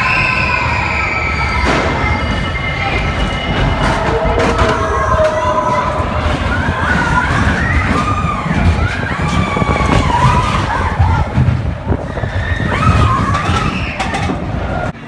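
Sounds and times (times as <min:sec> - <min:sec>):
riders screaming: 0:00.0 - 0:14.9
ride car rumbling on track: 0:00.0 - 0:15.0.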